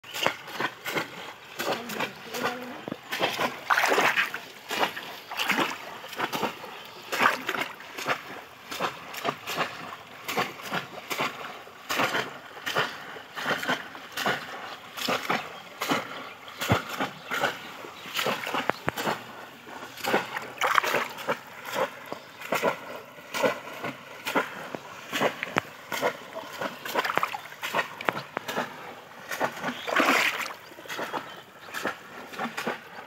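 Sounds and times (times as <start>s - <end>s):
pond water splashing: 0.0s - 33.0s.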